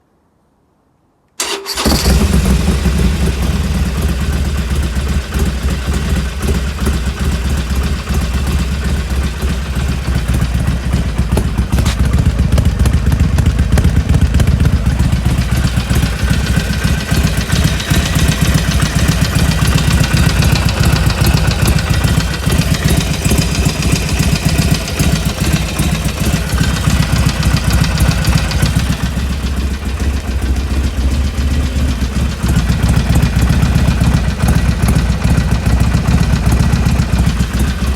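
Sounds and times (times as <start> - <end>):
motorcycle engine idling: 1.4 - 37.9.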